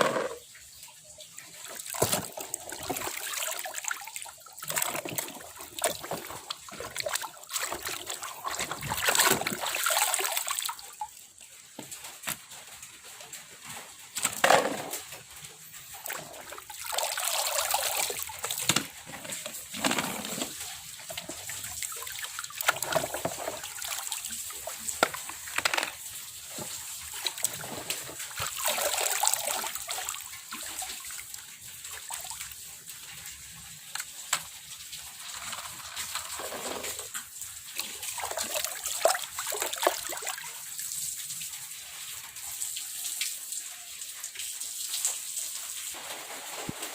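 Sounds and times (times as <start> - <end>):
water sloshing and splashing: 0.0 - 42.7, 45.1 - 46.9.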